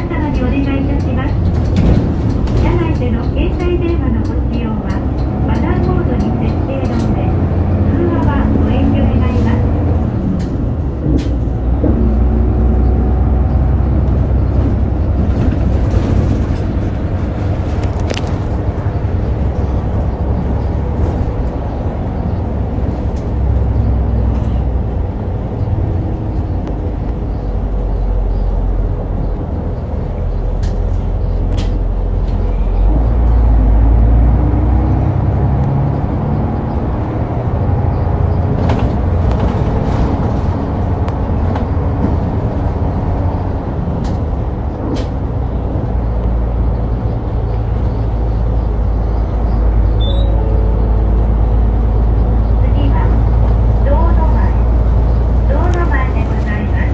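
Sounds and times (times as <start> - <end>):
bus diesel engine: 0.0 - 56.9
road noise: 0.0 - 56.9.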